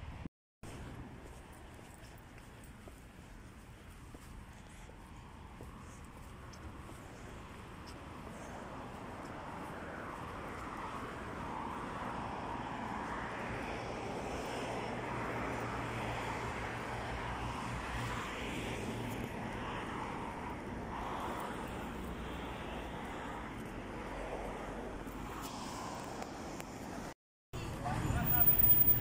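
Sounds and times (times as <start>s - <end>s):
distant traffic noise: 0.0s - 29.0s.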